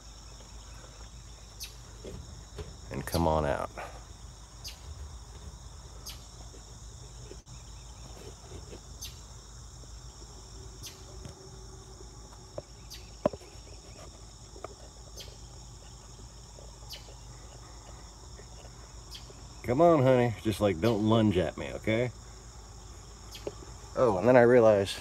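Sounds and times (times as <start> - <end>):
insects trilling: 0.0 - 25.0
sharp insect chirp: 0.0 - 25.0.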